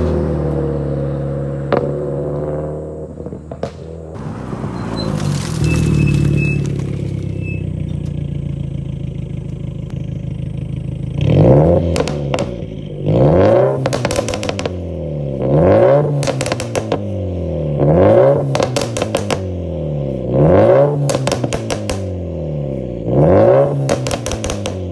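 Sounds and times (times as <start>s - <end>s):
car engine idling and revving: 0.0s - 24.9s
exhaust crackles and pops: 0.0s - 24.9s.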